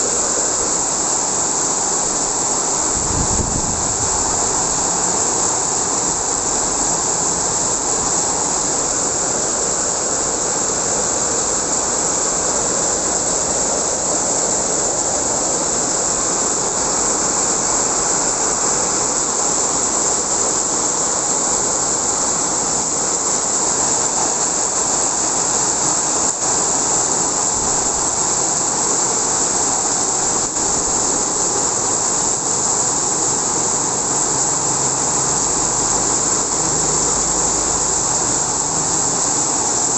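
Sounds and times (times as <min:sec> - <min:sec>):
heavy rain in strong wind: 0:00.0 - 0:39.9.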